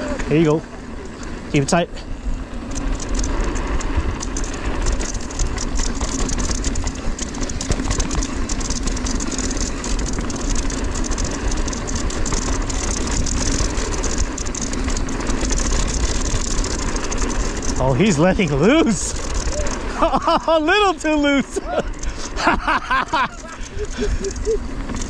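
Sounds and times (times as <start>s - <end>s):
bike rattling and clicking: 0.0s - 25.0s
bike tyres rolling on dirt: 0.0s - 25.0s.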